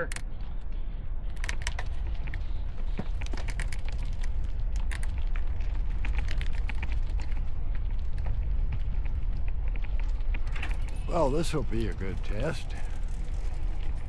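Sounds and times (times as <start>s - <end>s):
bicycle clicks and crackles: 0.0s - 14.0s
wind rumbling on microphone: 0.0s - 14.0s.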